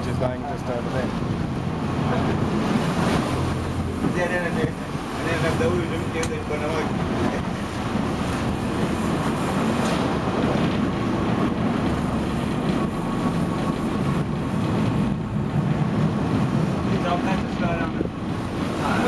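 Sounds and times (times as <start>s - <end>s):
boat engines running: 0.0s - 19.0s
wind buffeting microphone: 0.0s - 19.0s.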